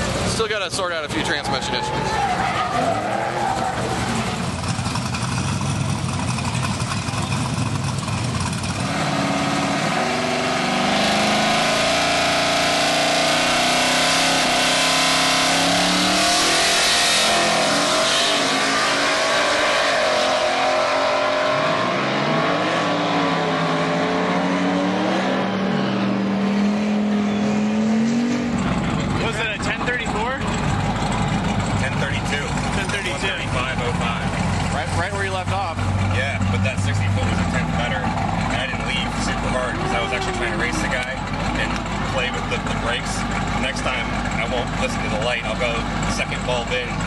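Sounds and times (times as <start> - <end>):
drag race car engine: 0.0 - 47.0.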